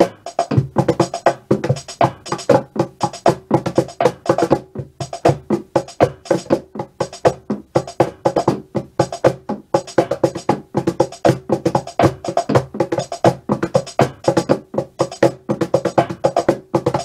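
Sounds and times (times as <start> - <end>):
fast uneven drumming: 0.0 - 17.0.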